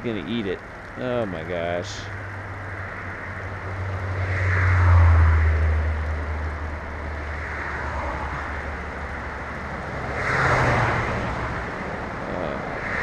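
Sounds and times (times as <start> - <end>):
low engine hum: 0.0 - 13.0
vehicle passing: 0.0 - 13.0.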